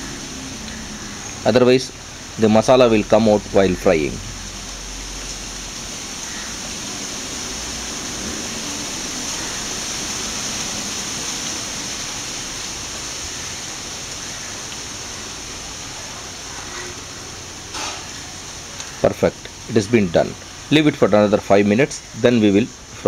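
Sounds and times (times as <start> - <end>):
steady high-pitched hiss: 0.0 - 23.0.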